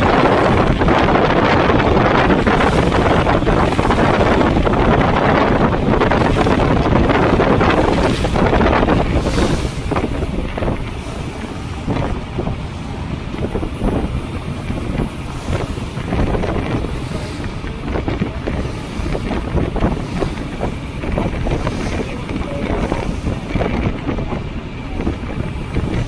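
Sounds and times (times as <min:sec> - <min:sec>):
water slapping along hull: 0:00.0 - 0:26.0
wind buffeting microphone: 0:00.0 - 0:26.0.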